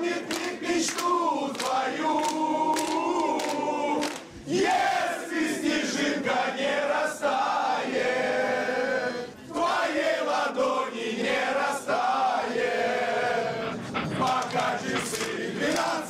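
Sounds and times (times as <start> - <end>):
football fans chanting and singing: 0.0 - 16.0.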